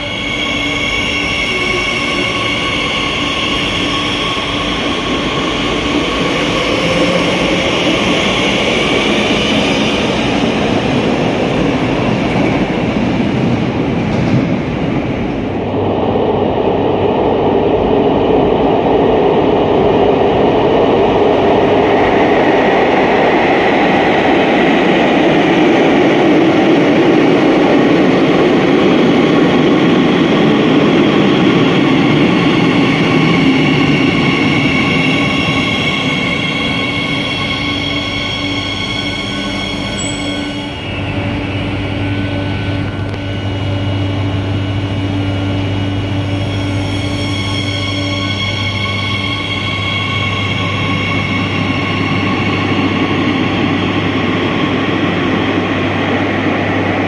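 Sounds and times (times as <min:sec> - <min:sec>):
high electric tones of train: 0:00.0 - 0:57.0
low hum of stationary train: 0:00.0 - 0:57.0
metro train rumbling in: 0:00.0 - 0:57.0.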